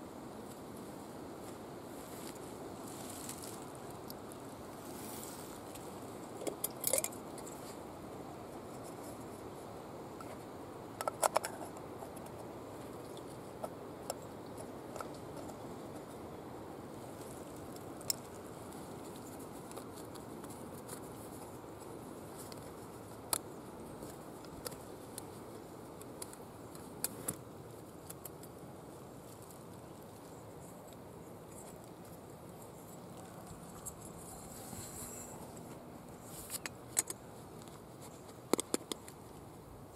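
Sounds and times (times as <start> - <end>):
crinkly rustle: 0.1 - 39.9.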